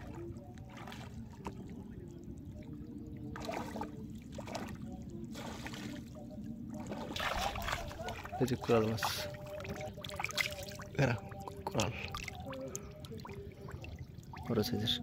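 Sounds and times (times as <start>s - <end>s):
water sloshing around wading legs: 0.0s - 15.0s
water swishes: 0.0s - 15.0s.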